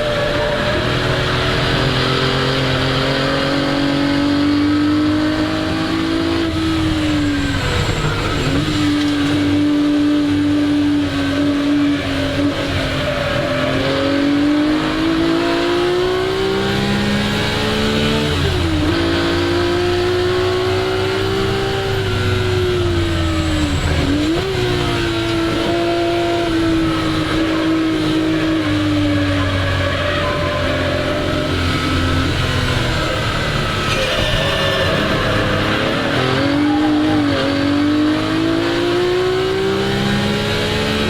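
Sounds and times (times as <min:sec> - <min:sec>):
race car engine running hard: 0:00.0 - 0:41.0.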